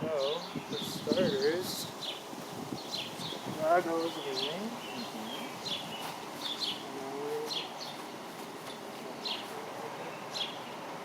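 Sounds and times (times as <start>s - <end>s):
steady background noise: 0.0s - 11.0s
small bird chirping: 0.2s - 9.6s.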